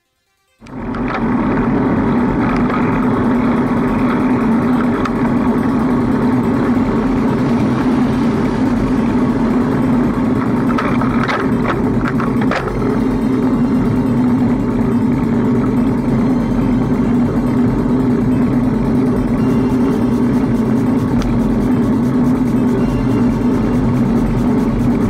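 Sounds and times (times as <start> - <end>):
road and wind rumble: 0.6 - 25.0.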